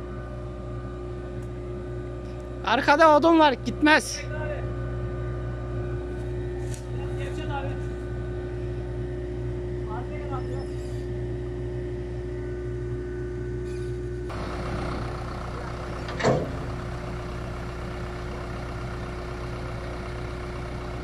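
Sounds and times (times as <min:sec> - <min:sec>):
rough engine noise: 0:00.0 - 0:21.0
tractor diesel engine running: 0:00.0 - 0:21.0.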